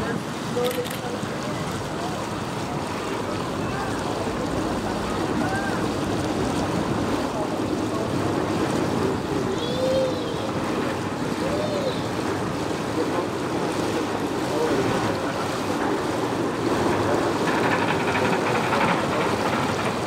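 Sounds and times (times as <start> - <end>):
boat motor: 0.0 - 20.0
water wash: 0.0 - 20.0
wind buffeting microphone: 1.2 - 20.0.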